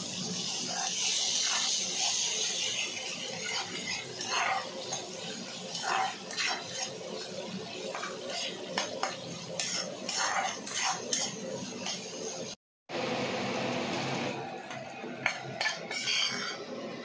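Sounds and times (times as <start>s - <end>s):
oil frying hiss: 0.0s - 12.6s, 13.7s - 17.0s
spatula scraping a pan: 0.6s - 12.6s, 14.7s - 16.9s.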